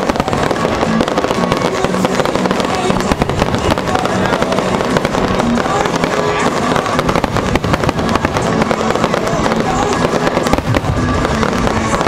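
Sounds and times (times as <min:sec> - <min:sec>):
fireworks booming and crackling: 0:00.0 - 0:12.0.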